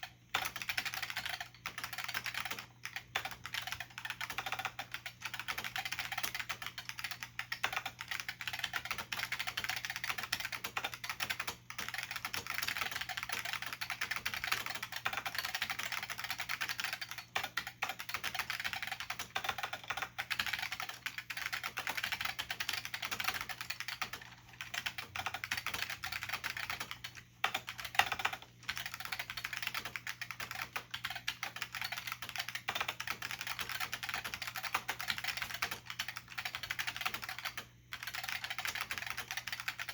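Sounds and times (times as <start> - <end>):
keyboard typing clicks: 0.0 - 39.9.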